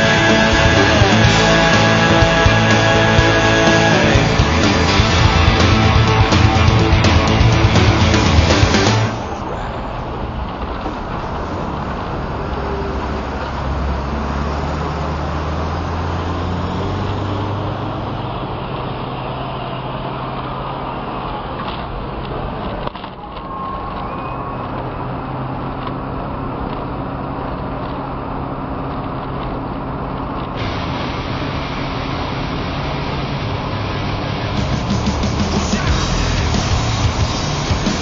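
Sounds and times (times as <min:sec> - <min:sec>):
bus engine running: 0:00.0 - 0:38.0
road noise: 0:00.0 - 0:38.0.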